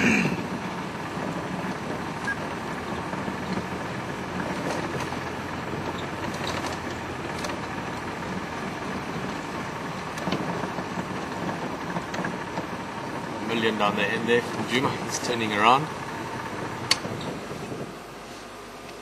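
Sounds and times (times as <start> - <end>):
vehicle engine and tyre noise: 0.0 - 19.0.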